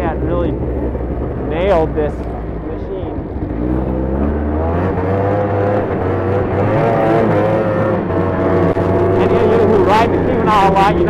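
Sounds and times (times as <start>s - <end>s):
snowmobile engine accelerating: 0.0s - 11.0s.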